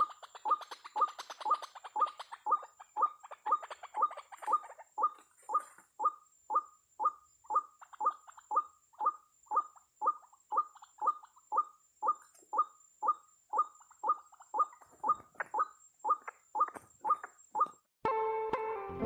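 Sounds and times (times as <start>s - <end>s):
waterhen calling: 0.0s - 17.8s.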